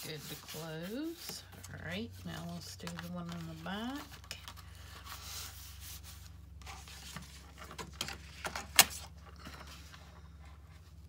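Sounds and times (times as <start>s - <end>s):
paper rustling and sliding: 0.0s - 10.1s.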